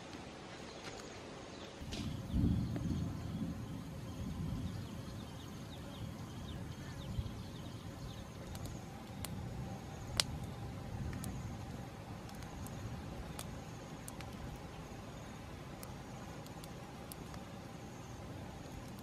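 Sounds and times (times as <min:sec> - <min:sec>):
campfire flames rumbling: 0:01.2 - 0:19.0
fire crackling and popping: 0:01.8 - 0:19.0.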